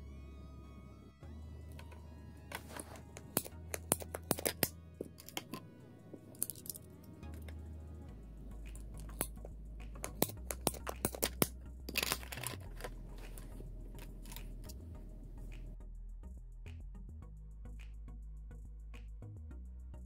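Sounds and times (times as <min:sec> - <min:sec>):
background music with bass: 0:00.0 - 0:20.0.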